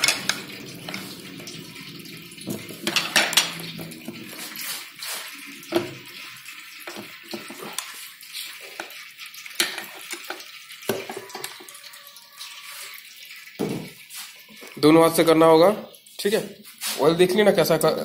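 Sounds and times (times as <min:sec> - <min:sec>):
engine oil trickling into steel bowl: 0:00.0 - 0:16.3.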